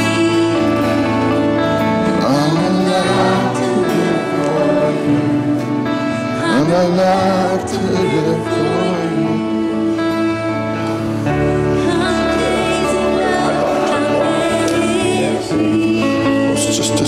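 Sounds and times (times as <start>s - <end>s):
acoustic guitars: 0.0s - 17.0s
voices singing: 0.0s - 17.0s.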